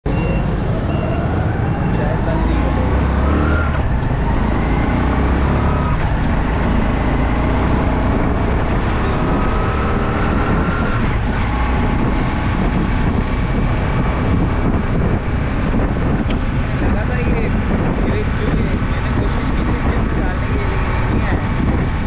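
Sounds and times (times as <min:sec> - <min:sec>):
traffic: 0:00.0 - 0:22.0
wind and road noise: 0:00.0 - 0:22.0.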